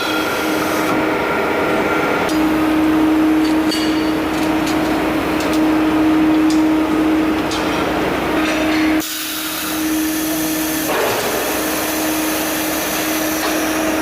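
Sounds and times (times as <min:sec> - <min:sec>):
machine hum and hiss: 0:00.0 - 0:14.0.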